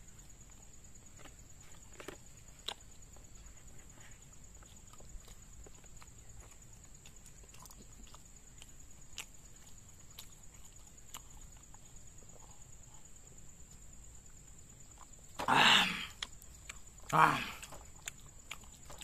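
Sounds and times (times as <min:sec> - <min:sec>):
mouth sounds of eating: 0:00.0 - 0:19.0.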